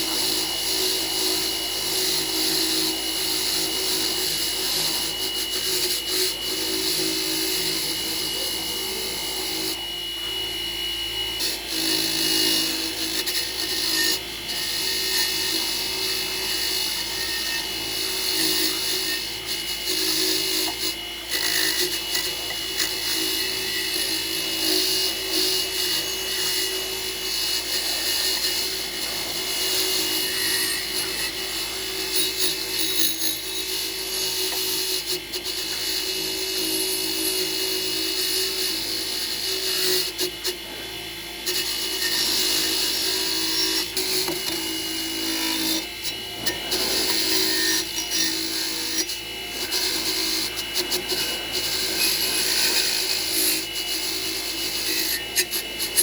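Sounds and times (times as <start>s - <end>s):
handheld power tool whining: 0.0s - 56.0s.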